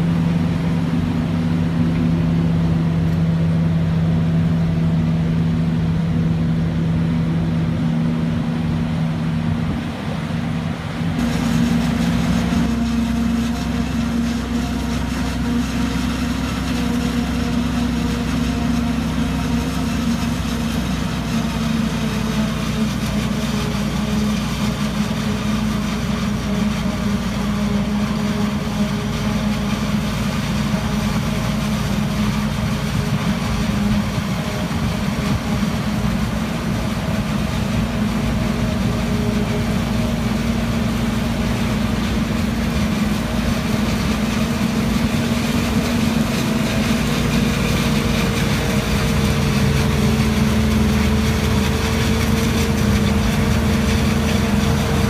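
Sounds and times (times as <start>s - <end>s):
heavy engine drone: 0.0s - 55.0s.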